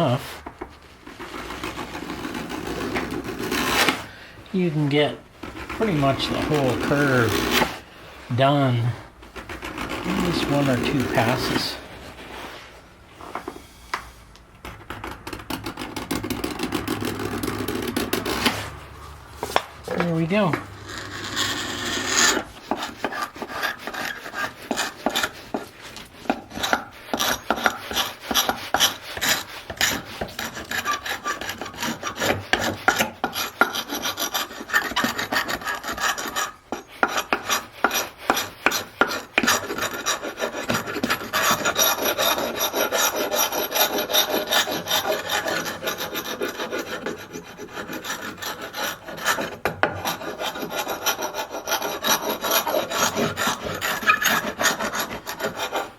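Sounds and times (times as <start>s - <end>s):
hand scraper rasping on wood: 1.0s - 4.1s, 5.4s - 7.8s, 9.4s - 11.8s, 15.0s - 18.7s, 19.5s - 55.9s.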